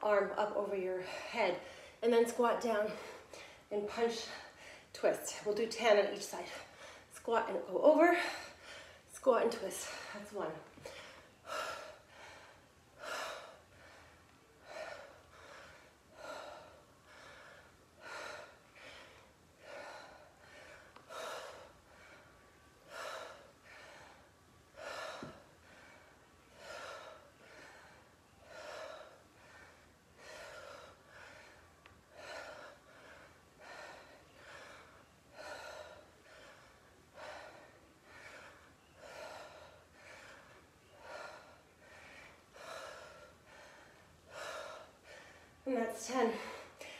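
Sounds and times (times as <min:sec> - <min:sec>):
woman breathing hard: 0:01.0 - 0:02.0, 0:02.9 - 0:05.0, 0:06.5 - 0:07.1, 0:08.1 - 0:09.1, 0:09.8 - 0:45.6, 0:46.2 - 0:46.9.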